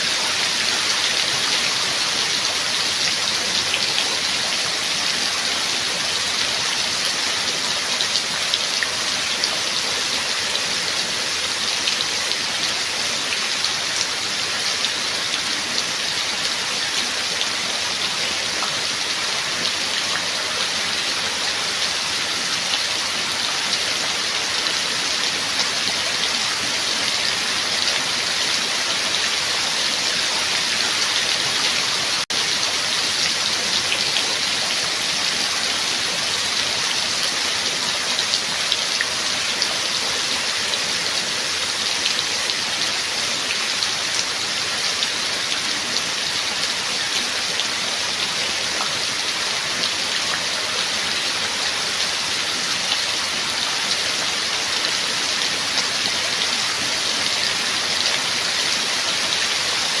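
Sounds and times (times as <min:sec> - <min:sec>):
rain falling steadily: 0:00.0 - 1:00.0.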